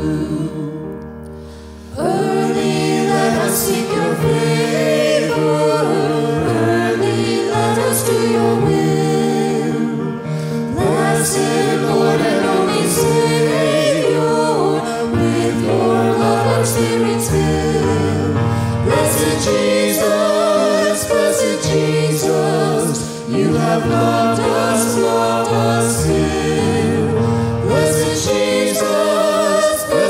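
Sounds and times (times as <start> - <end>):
sustained accompaniment chords: 0.0 - 30.0
voices singing a hymn: 0.0 - 30.0.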